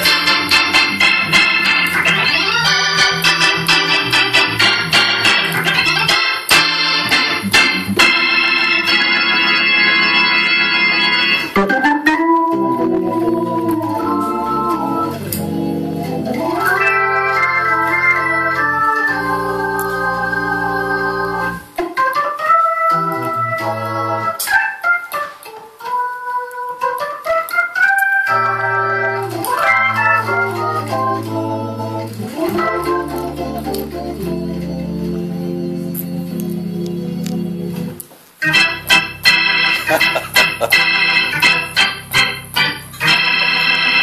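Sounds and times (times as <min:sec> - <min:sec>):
organ playing chords: 0:00.0 - 0:44.0.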